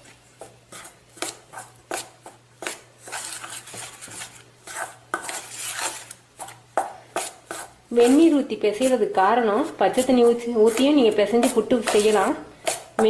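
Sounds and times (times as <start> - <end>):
hand scraping flour in metal bowl: 0.7 - 6.6, 7.2 - 13.0.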